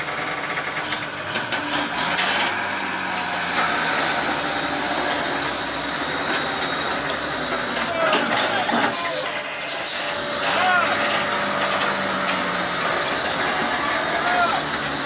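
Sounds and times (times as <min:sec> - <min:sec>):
truck and digger engines: 0:00.0 - 0:15.0.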